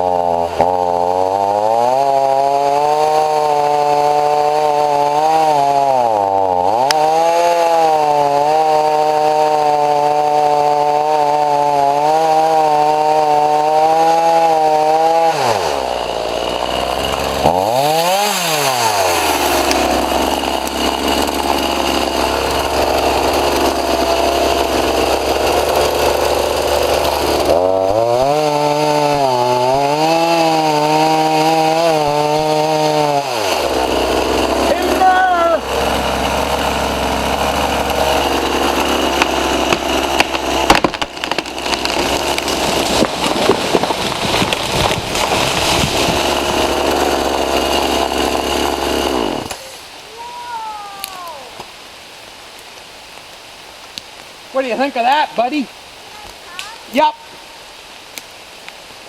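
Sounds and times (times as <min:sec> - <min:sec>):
chainsaw idling: 0:00.0 - 0:51.6
chainsaw cutting wood: 0:00.0 - 0:51.8, 0:52.6 - 0:57.1.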